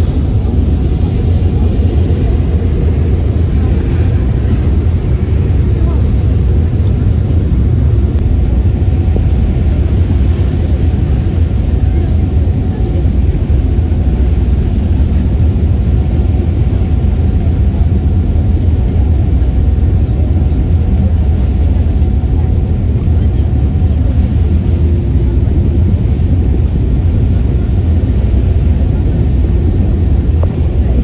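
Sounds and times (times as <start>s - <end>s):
ferry engine rumble: 0.0s - 31.0s.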